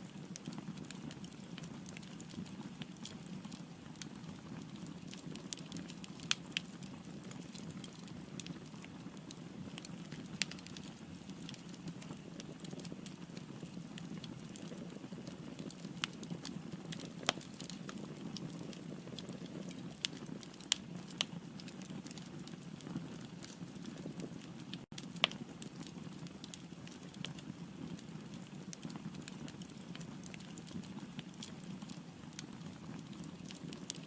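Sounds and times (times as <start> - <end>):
fire rumbling in fireplace: 0.0 - 34.0
firewood crackling and popping: 0.0 - 34.0.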